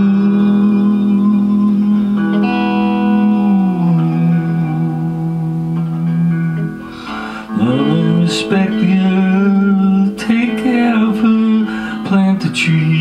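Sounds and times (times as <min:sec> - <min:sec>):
electric guitar blues solo: 0:00.0 - 0:13.0.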